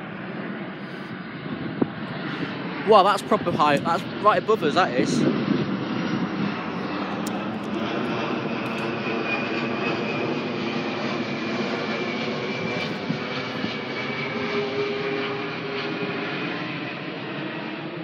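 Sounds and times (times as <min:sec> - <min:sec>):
high jet whine: 0:00.0 - 0:18.0
jet airliner engine: 0:00.0 - 0:18.0.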